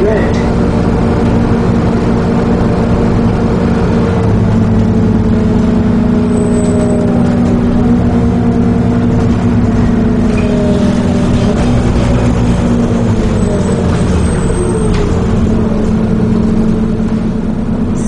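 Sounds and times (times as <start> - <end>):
bus diesel engine drone: 0.0 - 18.0
road noise: 0.0 - 18.0
whine: 0.0 - 18.0.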